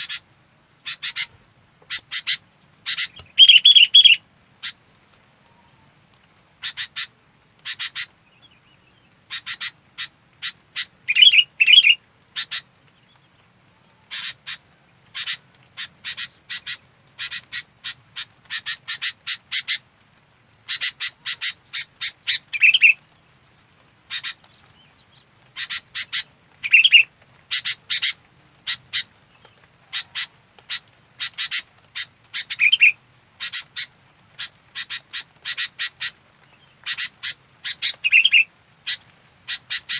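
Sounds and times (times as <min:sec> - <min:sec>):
bird chattering calls: 0:00.0 - 0:04.8, 0:06.6 - 0:08.5, 0:09.2 - 0:12.7, 0:14.1 - 0:19.8, 0:20.7 - 0:23.0, 0:24.1 - 0:24.6, 0:25.5 - 0:39.9.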